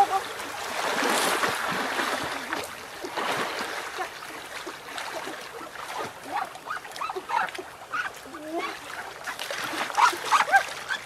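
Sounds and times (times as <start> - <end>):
water splashing from swimmers: 0.0 - 11.0.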